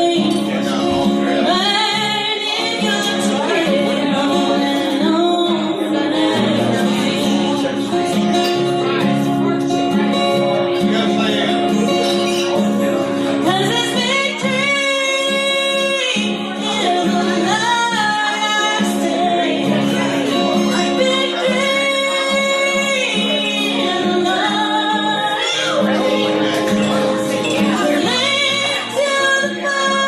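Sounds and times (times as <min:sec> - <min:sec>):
woman singing country song: 0:00.0 - 0:10.8, 0:11.5 - 0:30.0
acoustic guitar: 0:00.0 - 0:30.0.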